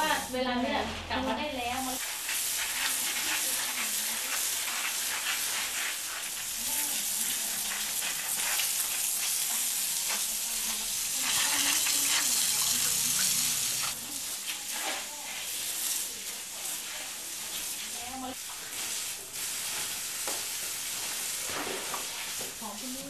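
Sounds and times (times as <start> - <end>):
hose spray hissing on tiled floor: 0.0 - 23.0.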